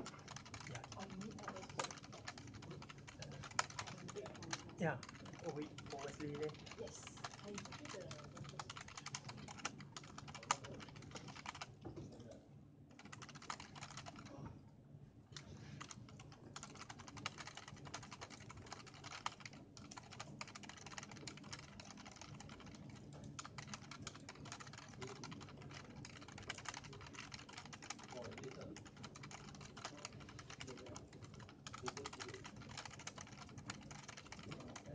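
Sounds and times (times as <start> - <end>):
keyboard typing: 0.0 - 14.5, 15.3 - 34.9.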